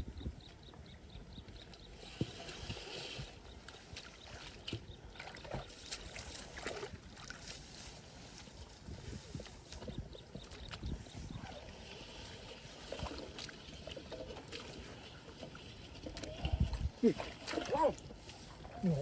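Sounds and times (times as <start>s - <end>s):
muddy water splashing: 1.8s - 19.0s.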